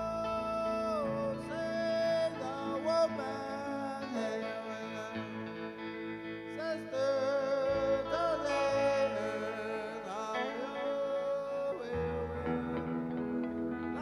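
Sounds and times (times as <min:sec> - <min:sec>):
electric guitar bending notes: 0:00.0 - 0:14.0.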